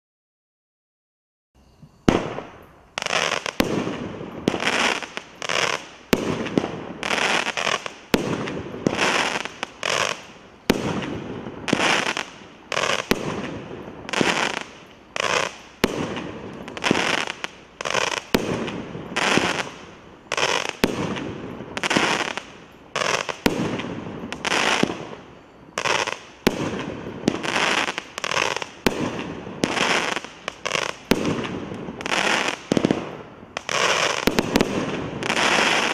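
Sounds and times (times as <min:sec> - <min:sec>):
fireworks bangs with echoing tail: 0:02.0 - 0:35.9.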